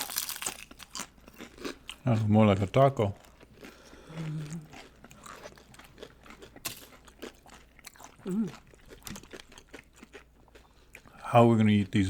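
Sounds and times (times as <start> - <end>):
chips crunching while chewed: 0.0 - 11.1.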